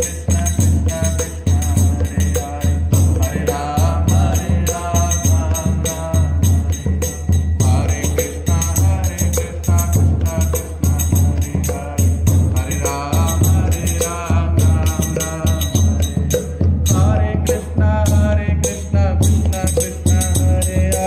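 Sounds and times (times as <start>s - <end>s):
barrel drum: 0.0s - 21.0s
men singing devotional song: 0.0s - 21.0s
small hand cymbals: 0.0s - 21.0s.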